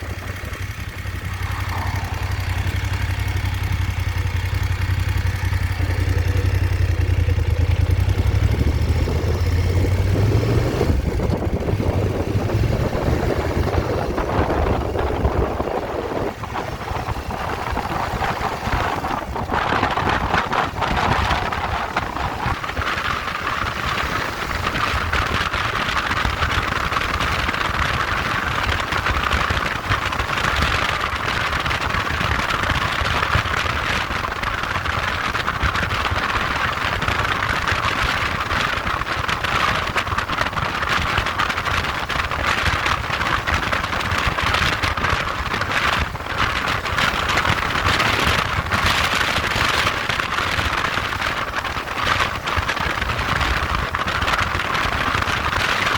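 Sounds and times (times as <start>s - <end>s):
motorbike engine running: 0.0s - 55.9s
road noise: 0.0s - 55.9s.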